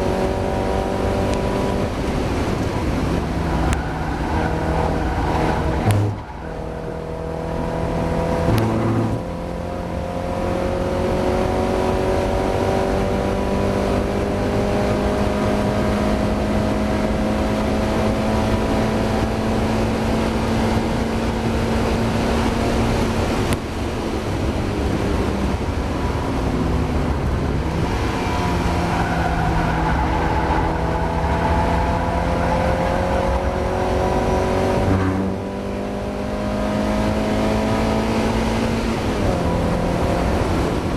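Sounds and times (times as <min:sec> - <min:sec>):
race car engine pulling hard: 0:00.0 - 0:40.9.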